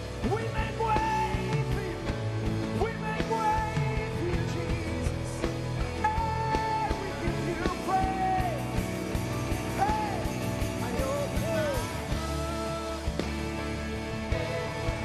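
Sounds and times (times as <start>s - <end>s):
live worship band playing: 0.0s - 15.0s
steady drum beat: 0.0s - 15.0s
person singing: 0.1s - 8.8s, 9.4s - 15.0s.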